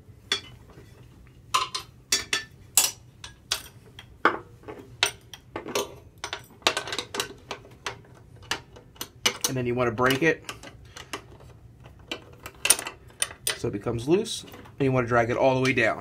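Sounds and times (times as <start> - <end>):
wrenches clinking against metal: 0.3 - 16.0.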